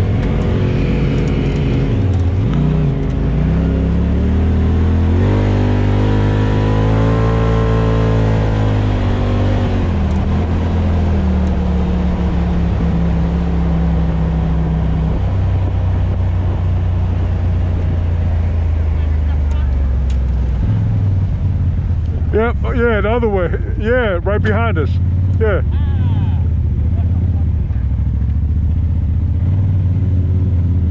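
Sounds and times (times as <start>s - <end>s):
off-road vehicle engine revving: 0.0s - 30.9s
rumble of driving over trail: 0.0s - 30.9s.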